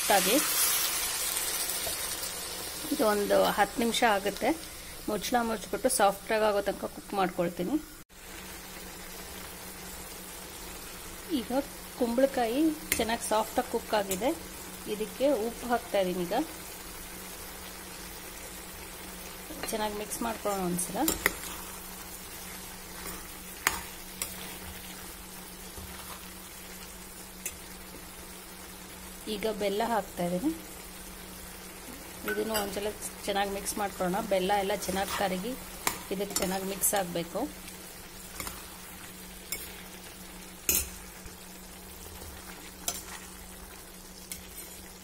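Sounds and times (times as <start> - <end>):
pumpkin sizzling in a pan: 0.0 - 45.0.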